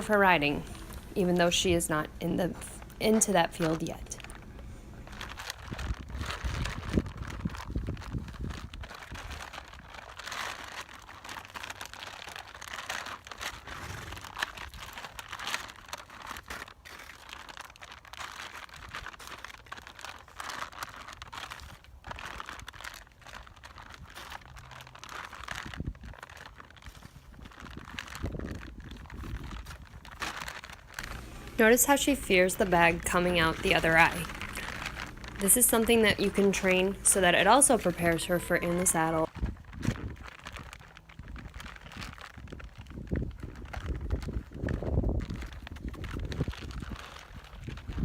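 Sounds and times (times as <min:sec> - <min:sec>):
feed sack crinkling and rustling: 0:00.0 - 0:48.0.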